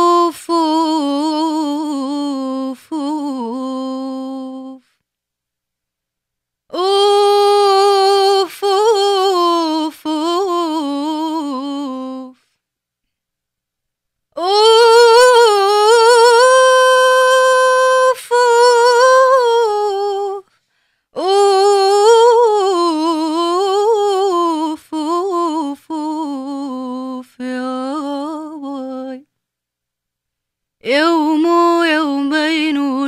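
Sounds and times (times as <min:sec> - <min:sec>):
woman singing unaccompanied: 0:00.0 - 0:05.0, 0:06.7 - 0:12.6, 0:14.3 - 0:29.4, 0:30.8 - 0:33.0.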